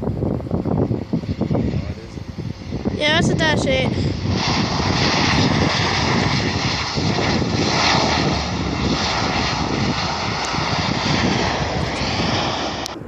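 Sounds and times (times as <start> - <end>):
thin steady engine whine: 0.0 - 13.0
turboprop airplane passing: 0.0 - 13.0.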